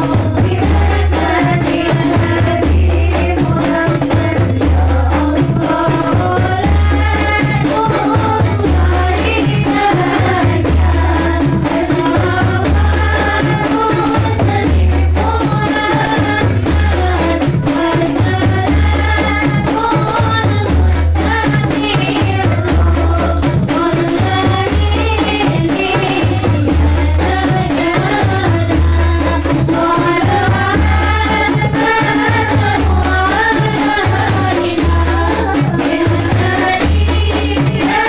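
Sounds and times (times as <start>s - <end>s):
frame drums playing: 0.0s - 38.0s
women singing: 0.0s - 38.0s.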